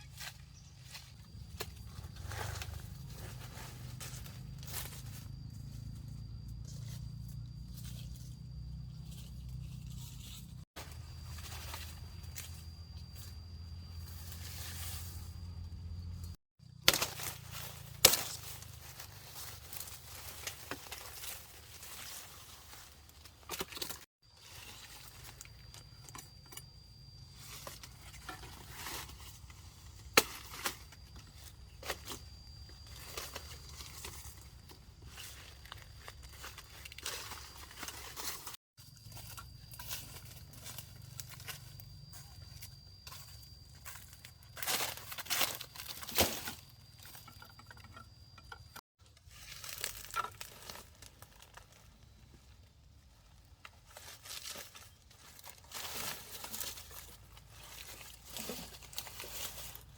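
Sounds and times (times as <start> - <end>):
rustles: 0.0 - 59.9.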